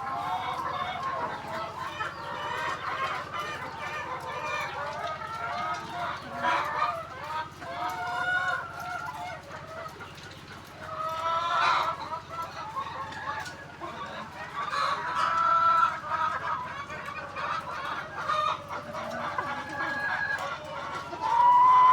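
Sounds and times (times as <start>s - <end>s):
hens clucking: 0.0s - 21.9s.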